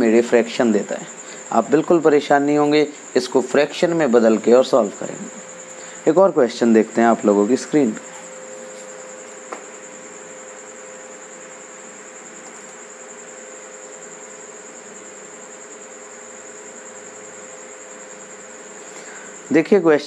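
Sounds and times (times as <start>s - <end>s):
faint low hum: 0.0s - 20.0s
high-pitched whine: 0.0s - 20.0s.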